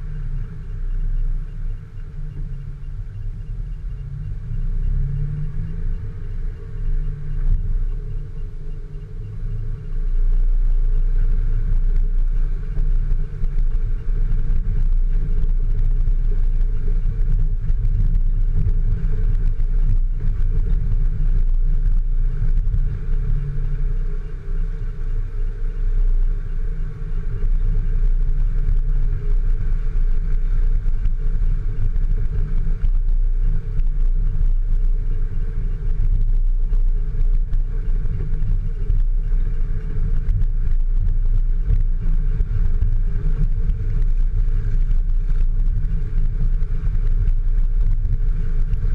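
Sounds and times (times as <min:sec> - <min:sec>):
vehicle engine rumbling: 0:00.0 - 0:48.9.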